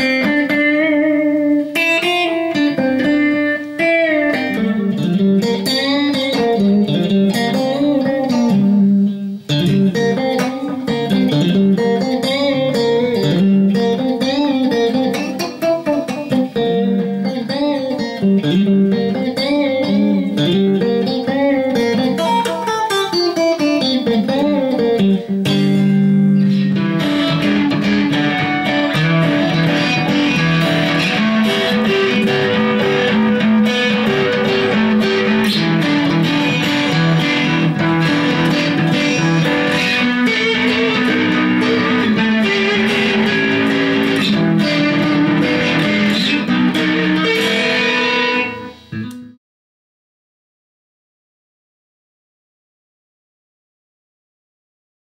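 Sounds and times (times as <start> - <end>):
electric guitar playing: 0.0 - 49.4.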